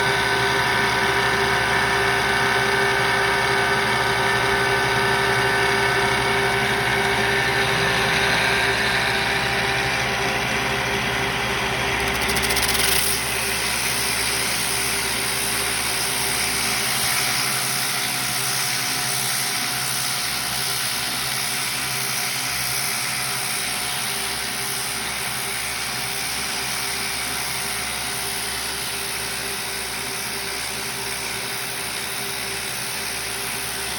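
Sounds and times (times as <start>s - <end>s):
machine whine: 0.0s - 33.9s.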